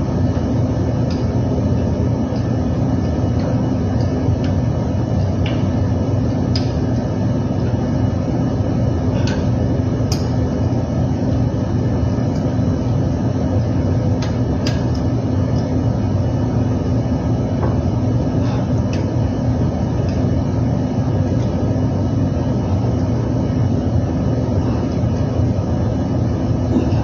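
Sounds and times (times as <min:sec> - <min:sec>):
compressor humming: 0:00.0 - 0:27.0.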